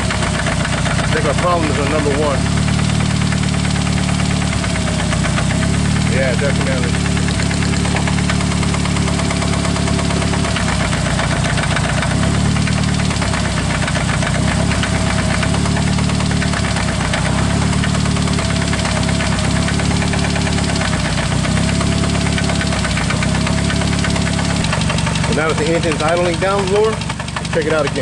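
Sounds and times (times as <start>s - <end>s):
engine idling with rod knock: 0.0s - 28.0s.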